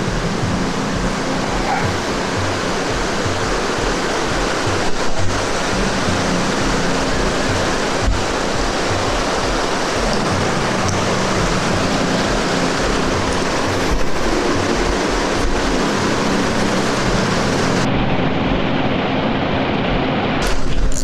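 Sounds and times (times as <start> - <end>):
background music low notes: 0.0 - 20.9
fast-flowing river water: 0.0 - 20.9.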